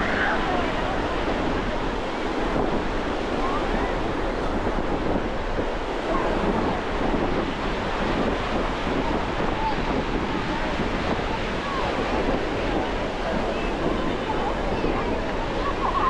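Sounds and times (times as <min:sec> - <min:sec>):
sea waves washing onto shore: 0:00.0 - 0:16.0
wind rumbling on microphone: 0:00.0 - 0:16.0.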